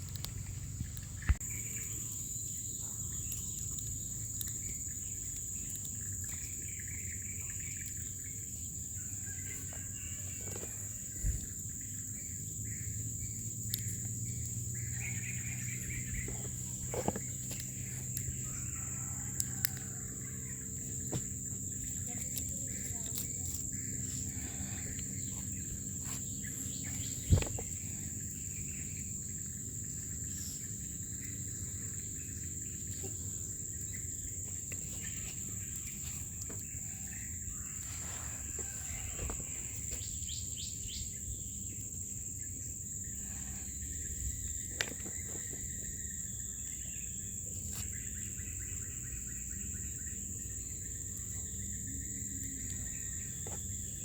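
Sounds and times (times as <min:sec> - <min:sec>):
low outdoor background rumble: 0:00.0 - 0:54.0
high-pitched insect drone: 0:00.7 - 0:54.0.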